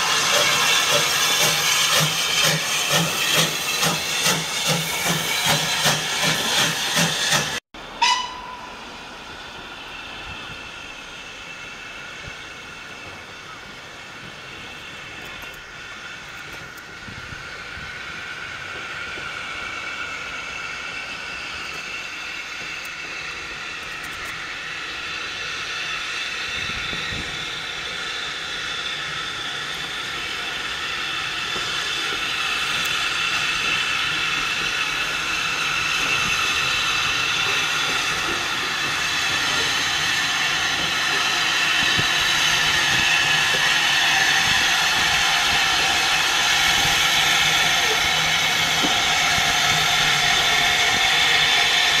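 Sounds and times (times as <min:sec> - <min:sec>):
steam hiss: 0:00.0 - 0:08.2, 0:08.8 - 0:52.0
steam locomotive moving slowly: 0:00.0 - 0:52.0.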